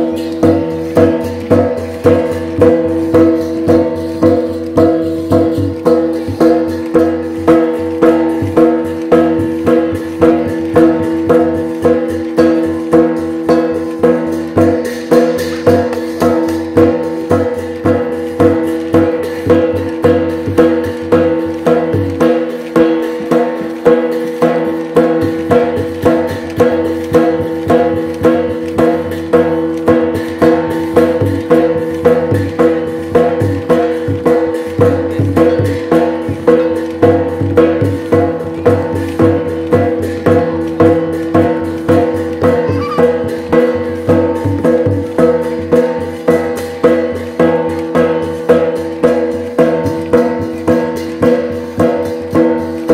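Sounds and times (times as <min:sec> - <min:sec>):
percussion music steady beat: 0:00.0 - 0:52.9.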